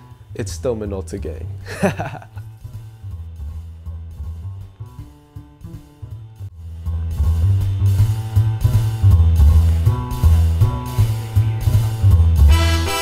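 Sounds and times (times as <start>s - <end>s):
music with bass and drums: 0.0s - 13.0s.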